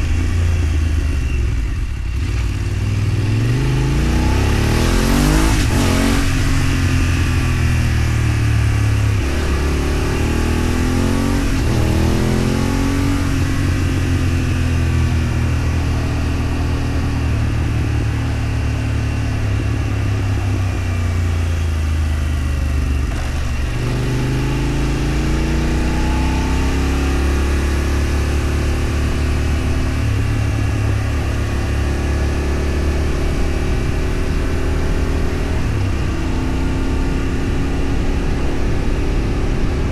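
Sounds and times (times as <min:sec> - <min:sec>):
road noise: 0:00.0 - 0:39.9
vehicle engine accelerating: 0:00.0 - 0:39.9.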